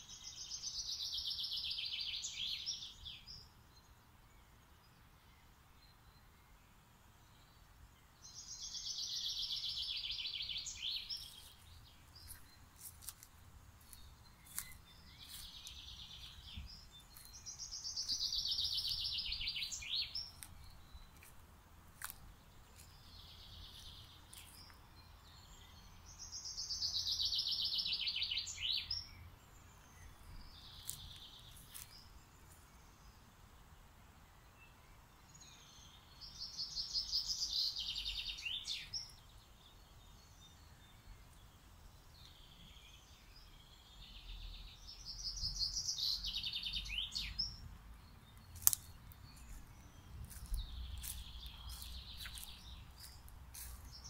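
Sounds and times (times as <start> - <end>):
faint bird song: 0.0 - 54.0.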